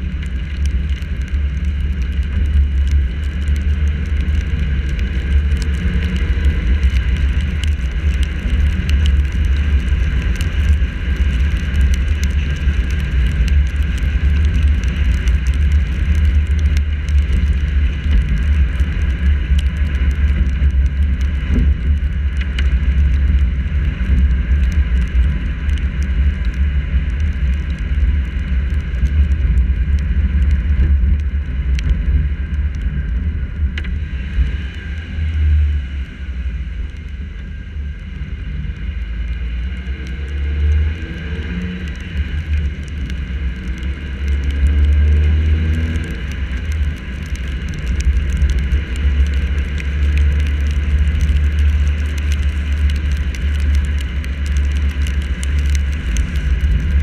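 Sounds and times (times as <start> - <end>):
car driving rumble: 0.0 - 57.0
raindrops ticking: 0.0 - 57.0.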